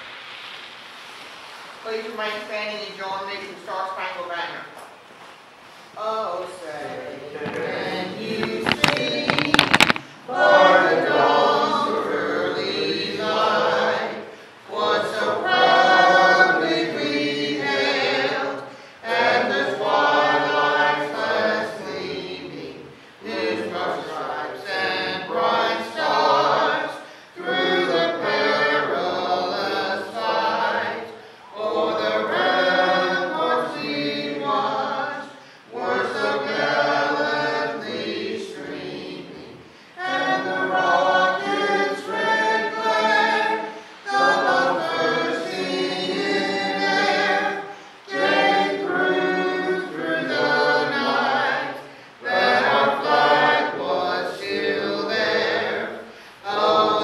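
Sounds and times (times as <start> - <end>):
group singing unaccompanied: 6.0 - 57.0.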